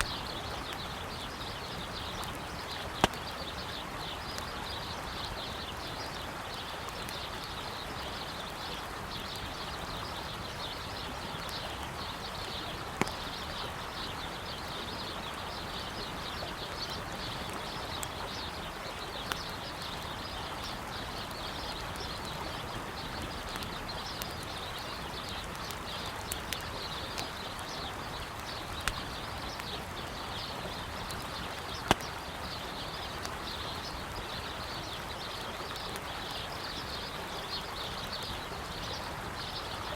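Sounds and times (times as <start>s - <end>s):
birds chirping: 0.0s - 39.9s
campfire crackling and popping: 0.0s - 39.9s
river flowing: 0.0s - 39.9s.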